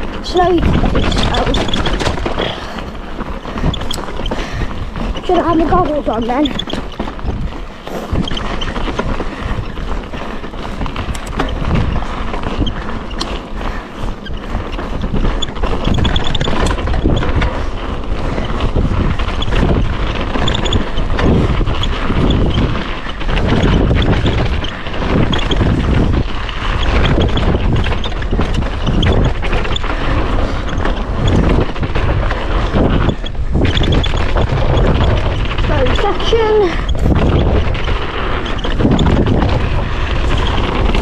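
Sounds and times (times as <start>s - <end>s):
bike rattling over bumps: 0.0s - 41.0s
tyres crunching on gravel: 0.0s - 41.0s
wind buffeting microphone: 0.0s - 41.0s.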